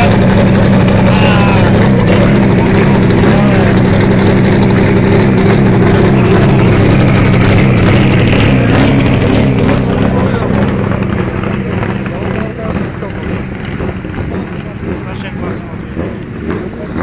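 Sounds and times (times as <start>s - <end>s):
race car engine idling: 0.0s - 17.0s.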